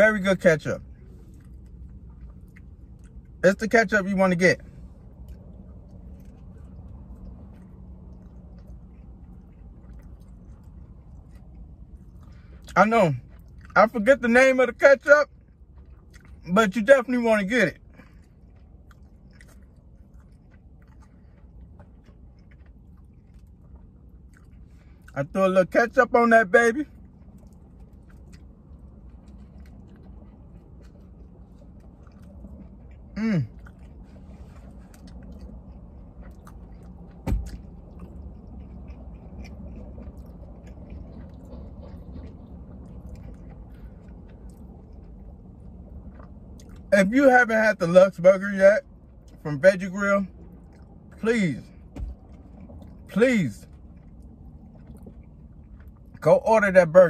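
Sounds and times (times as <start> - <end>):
faint chewing: 0.0 - 48.2, 48.8 - 57.0
low steady hum: 0.0 - 57.0.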